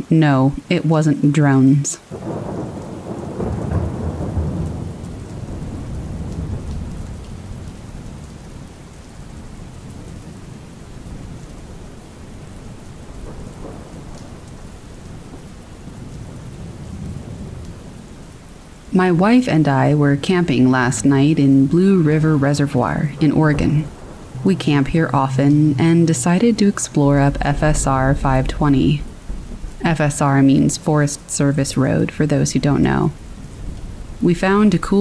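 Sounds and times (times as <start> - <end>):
steady rain falling: 0.0 - 35.0
low roll of thunder: 2.1 - 35.0.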